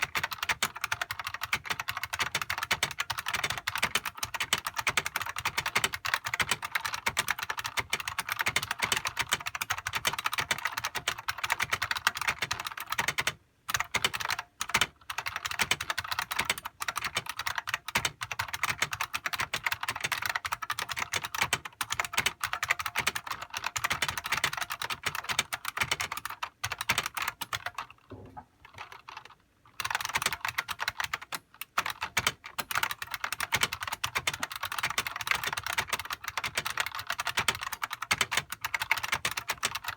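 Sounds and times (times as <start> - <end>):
fast typing on a keyboard: 0.0 - 28.0, 28.6 - 39.9.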